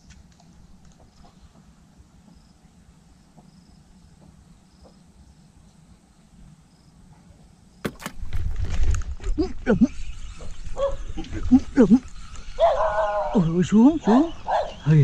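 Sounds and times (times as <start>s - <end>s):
faint insect chirps: 0.0s - 8.1s, 9.7s - 15.0s.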